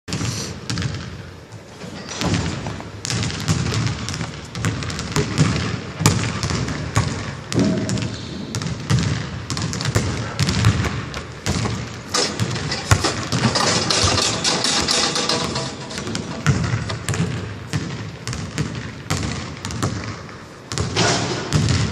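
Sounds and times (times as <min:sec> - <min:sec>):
basketball dribbling on wooden floor: 0:02.2 - 0:21.9.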